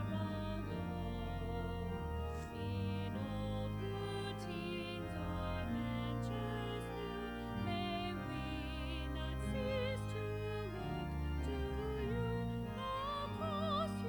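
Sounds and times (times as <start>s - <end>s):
sustained organ chords: 0.0s - 14.0s.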